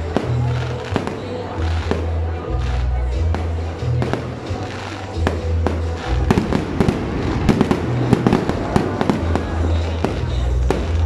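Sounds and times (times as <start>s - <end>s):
bass-heavy music: 0.0s - 11.0s
fireworks crackling and popping: 0.0s - 11.0s.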